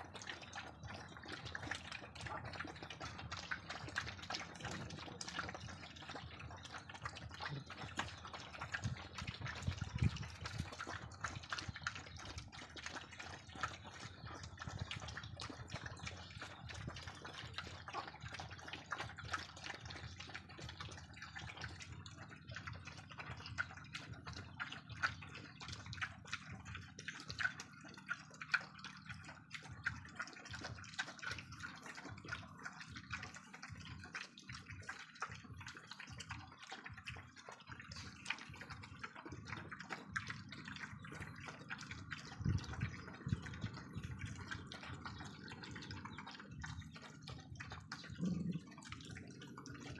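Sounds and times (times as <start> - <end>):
dogs lapping and slurping: 0.0 - 49.9.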